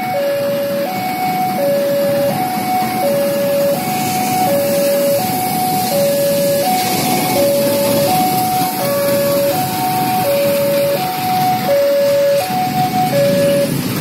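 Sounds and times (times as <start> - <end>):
diesel locomotive rumble: 0.0 - 14.0
level crossing two-tone alarm: 0.0 - 14.0.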